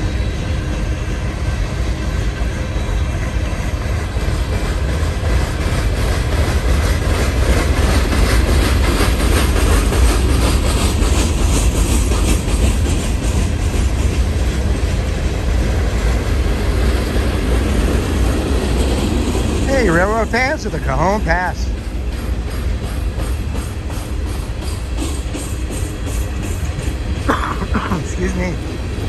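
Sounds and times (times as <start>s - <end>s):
train wheels rumbling on rail: 0.0s - 29.0s
wheels clacking over rail joints: 3.0s - 27.9s.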